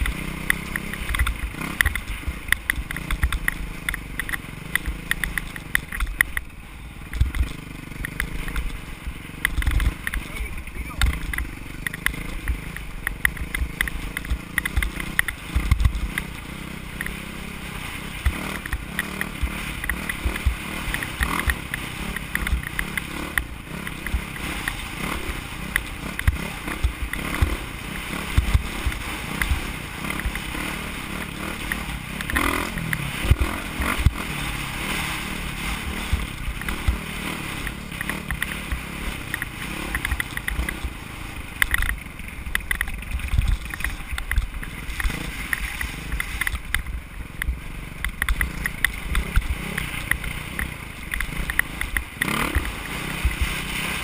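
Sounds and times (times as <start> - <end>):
dirt bike engine: 0.0 - 54.0
low thumps from bumps: 8.2 - 54.0.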